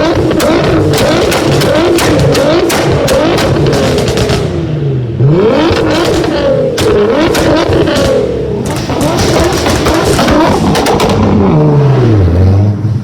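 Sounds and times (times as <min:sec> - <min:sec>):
exhaust pops and crackles: 0:00.0 - 0:04.8, 0:05.4 - 0:11.6
car engine revving: 0:00.0 - 0:13.0.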